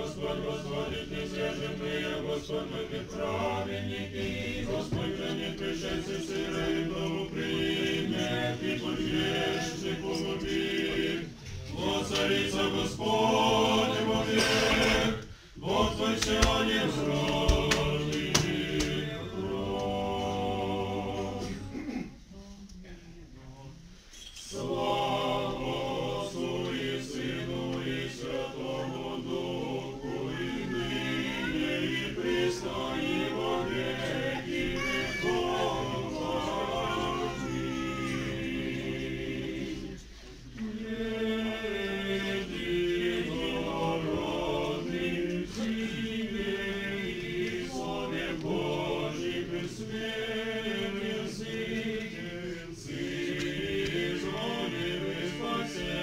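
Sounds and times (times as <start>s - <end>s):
choir singing a cappella hymn: 0.0s - 22.6s, 23.4s - 56.0s.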